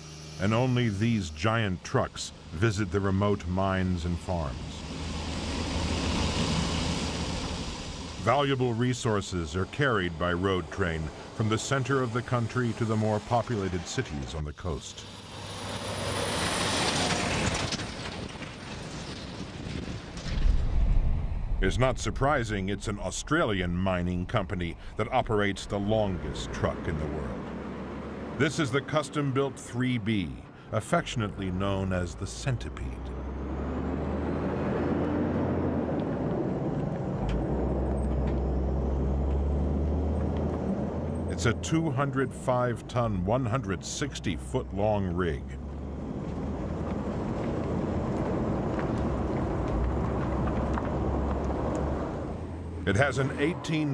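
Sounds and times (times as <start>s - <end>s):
diesel engine drone: 0.0s - 53.9s
road noise: 0.0s - 53.9s
truck driving past: 0.0s - 53.9s.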